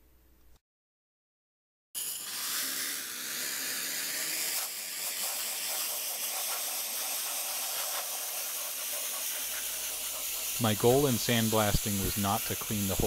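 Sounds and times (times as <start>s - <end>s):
sandblaster hissing: 2.0s - 13.0s.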